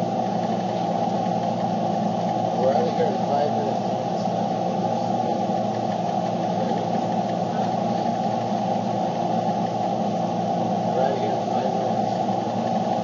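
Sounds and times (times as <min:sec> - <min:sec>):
car engine drone inside cabin: 0:00.0 - 0:13.0.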